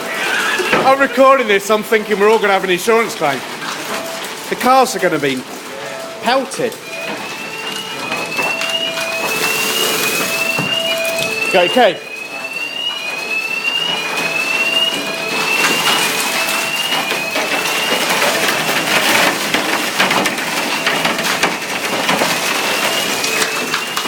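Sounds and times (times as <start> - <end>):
fire alarm sweeps: 0.0 - 24.0
heavy hail pelting: 0.0 - 24.0
low alarm tone: 0.4 - 24.0.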